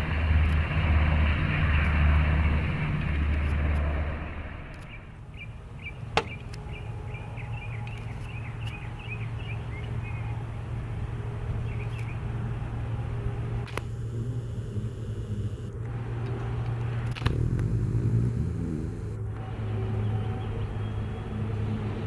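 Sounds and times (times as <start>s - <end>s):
helicopter rotor rumble: 0.0s - 22.0s.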